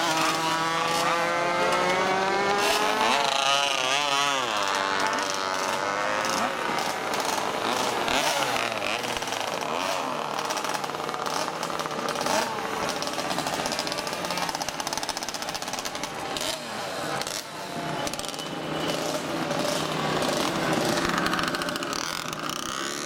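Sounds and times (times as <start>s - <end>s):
racing motorcycles passing: 0.0s - 23.0s.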